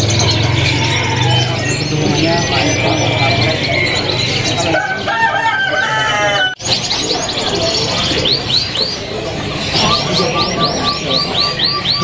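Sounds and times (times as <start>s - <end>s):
repeated arched chirps: 0.0s - 4.9s, 6.6s - 12.0s
caged birds chirping and whistling: 0.0s - 12.0s
low layered bird call: 0.0s - 12.0s.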